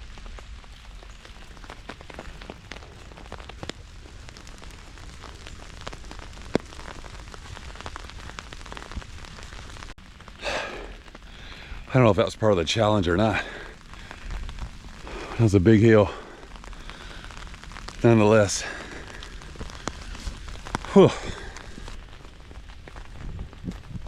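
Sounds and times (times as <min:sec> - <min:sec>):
rain hiss: 0:00.0 - 0:24.0
raindrops tapping on umbrella: 0:00.0 - 0:24.0.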